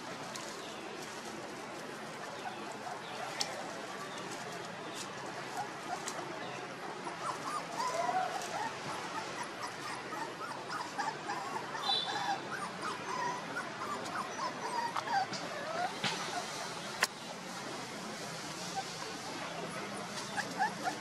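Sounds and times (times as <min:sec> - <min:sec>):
puppies whimpering: 0:01.8 - 0:04.5, 0:05.1 - 0:17.0, 0:18.6 - 0:21.0.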